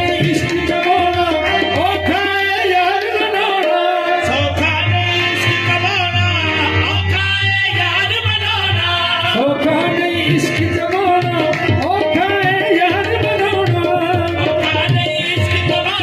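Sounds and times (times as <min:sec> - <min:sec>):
harmoniums playing: 0:00.0 - 0:16.0
tabla: 0:00.0 - 0:16.0.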